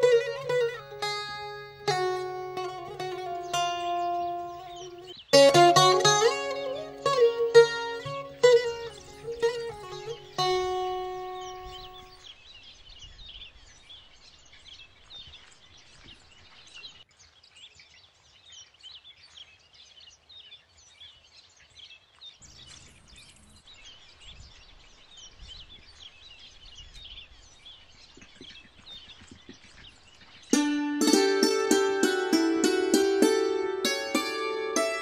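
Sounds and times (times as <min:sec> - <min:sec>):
birds chirping: 0:00.0 - 0:17.0, 0:22.4 - 0:35.0
faint outdoor background noise: 0:00.0 - 0:35.0.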